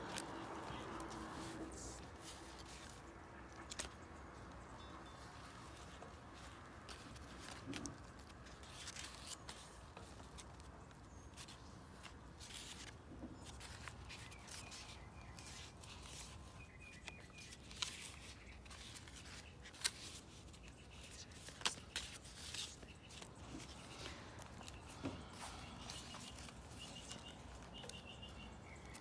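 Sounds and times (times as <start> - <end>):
paper rustling and crinkling: 0.0 - 29.0.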